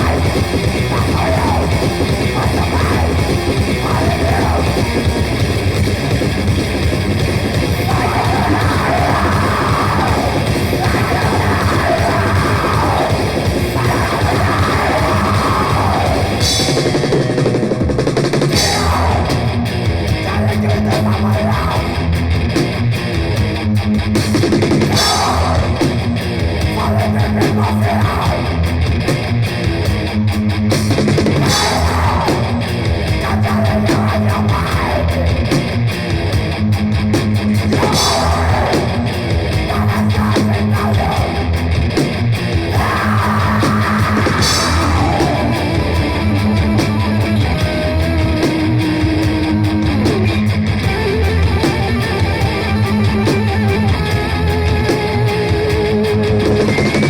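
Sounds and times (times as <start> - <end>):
grindcore music: 0.0 - 57.0.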